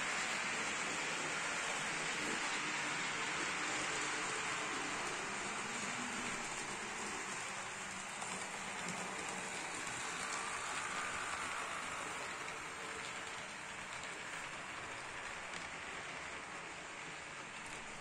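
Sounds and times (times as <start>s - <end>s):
model train whirring on rails: 0.0s - 18.0s.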